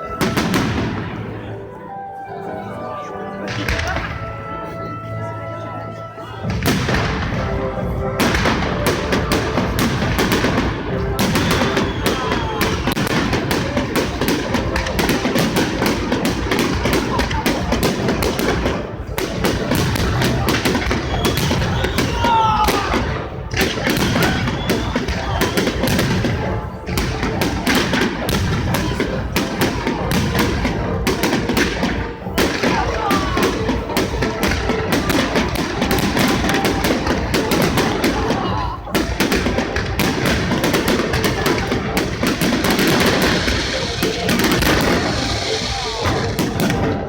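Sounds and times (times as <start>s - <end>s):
fireworks whistling: 0.0s - 1.2s, 8.2s - 47.0s
fireworks banging and crackling: 0.0s - 1.5s, 3.5s - 4.4s, 6.4s - 47.0s.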